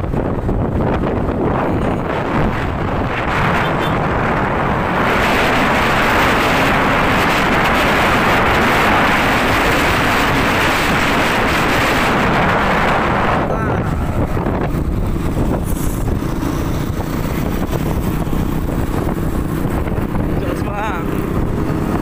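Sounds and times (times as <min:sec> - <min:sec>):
motorbike road noise: 0:00.0 - 0:22.0
wind rushing on microphone: 0:00.0 - 0:22.0.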